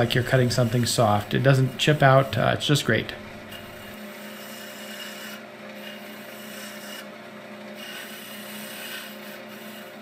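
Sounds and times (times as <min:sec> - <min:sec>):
lathe motor hum: 0:00.0 - 0:10.0
turning tool scraping wood: 0:00.0 - 0:10.0.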